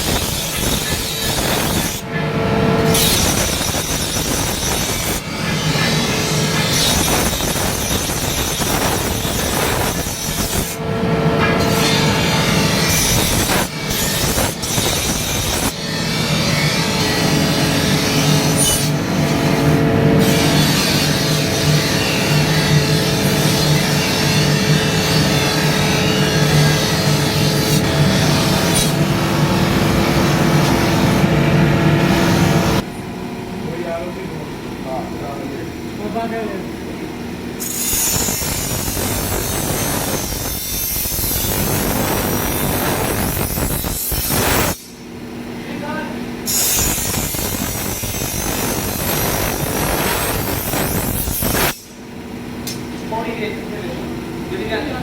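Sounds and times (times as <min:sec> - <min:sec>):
grinder grinding metal: 0:00.0 - 0:32.9, 0:37.6 - 0:45.0, 0:46.5 - 0:52.0
grinder motor hum: 0:00.0 - 0:44.9.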